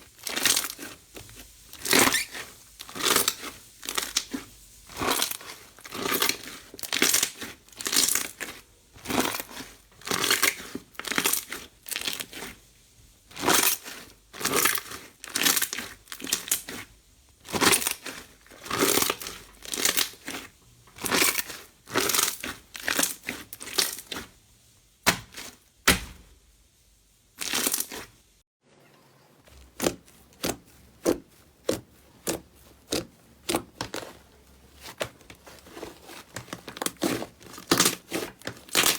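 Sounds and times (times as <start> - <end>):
slime squelching by hand: 0.0 - 24.4, 27.3 - 28.2, 29.5 - 38.9.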